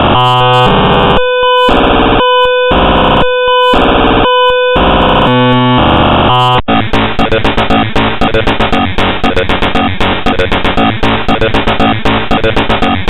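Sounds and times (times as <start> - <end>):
harsh buzzy synthesized chords: 0.0 - 13.0.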